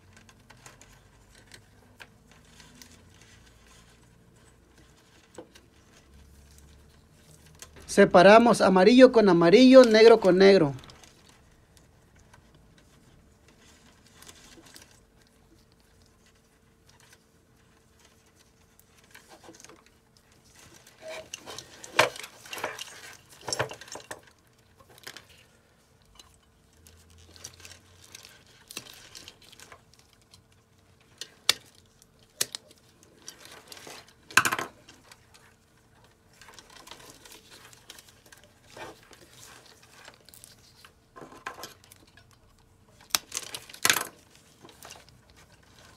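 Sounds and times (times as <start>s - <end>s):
wires rustling and rattling: 0.0s - 45.9s.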